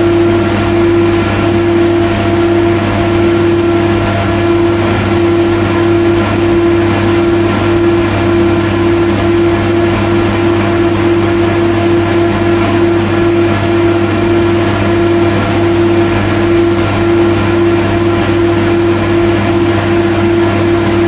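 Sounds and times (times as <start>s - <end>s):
factory machinery drone: 0.0s - 21.0s.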